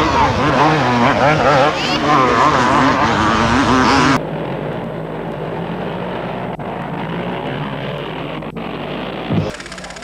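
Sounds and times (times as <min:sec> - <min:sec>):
motorcycle engines droning: 0:00.0 - 0:10.0.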